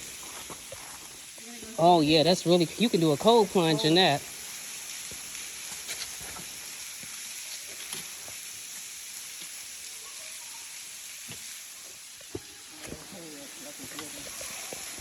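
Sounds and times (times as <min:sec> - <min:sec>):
waterfall splashing onto rocks: 0:00.0 - 0:15.0.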